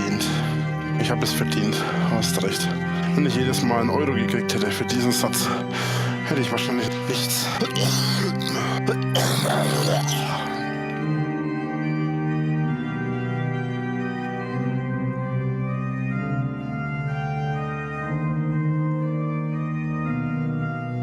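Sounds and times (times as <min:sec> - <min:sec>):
organ chords: 0:00.0 - 0:21.0.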